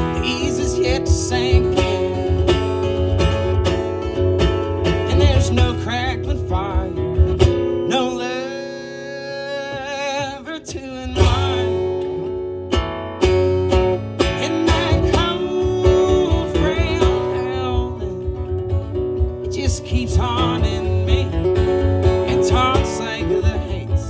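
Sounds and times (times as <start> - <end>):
steady bass: 0.0 - 7.9, 11.1 - 24.0
strummed acoustic guitar: 0.0 - 24.0.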